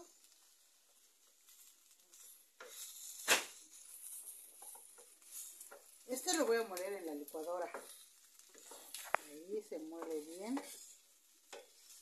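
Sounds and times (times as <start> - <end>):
onion and garlic sizzling in pan: 0.0 - 12.0
wooden spoon stirring: 0.1 - 12.0.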